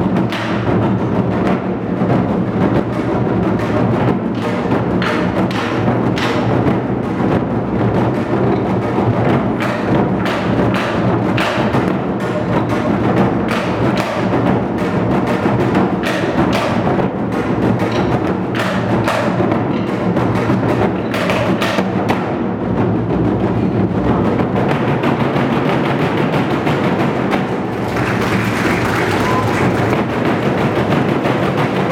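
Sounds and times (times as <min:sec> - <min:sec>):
ensemble of barrel drums: 0:00.0 - 0:31.9.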